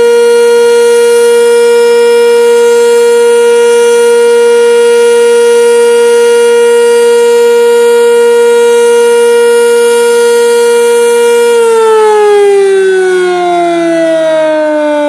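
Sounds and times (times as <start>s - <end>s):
warning siren steady tone: 0.0s - 15.0s.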